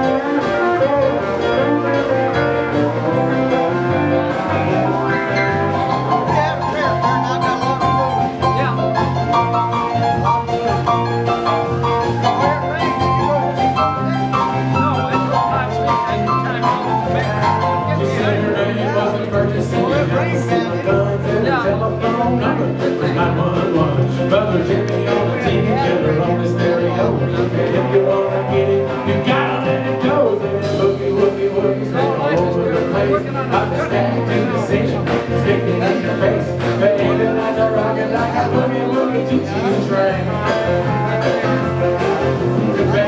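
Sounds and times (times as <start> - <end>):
bass line: 0.0 - 43.0
country dance band playing: 0.0 - 43.0
lead melody: 0.0 - 43.0
steady drum beat: 0.0 - 43.0.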